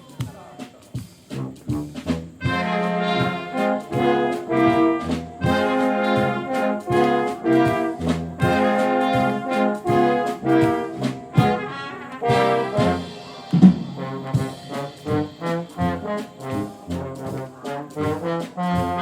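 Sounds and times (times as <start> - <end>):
wind orchestra with brass: 1.2 - 19.0.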